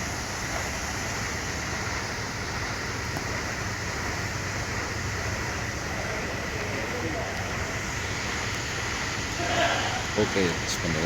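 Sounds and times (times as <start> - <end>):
churning water: 0.0 - 11.0
low engine drone: 0.0 - 11.0.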